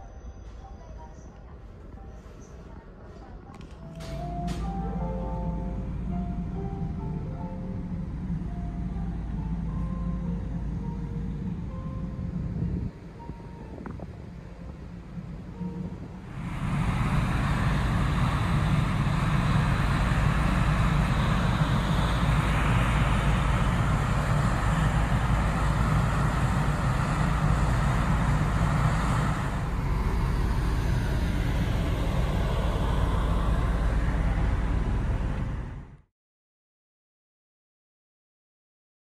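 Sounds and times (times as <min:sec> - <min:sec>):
ship engine rumble: 0:00.6 - 0:36.1.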